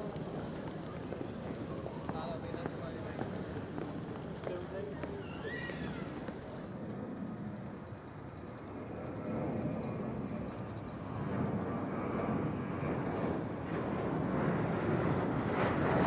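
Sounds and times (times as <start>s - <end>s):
airplane engine noise: 0.0s - 8.0s, 8.6s - 16.0s.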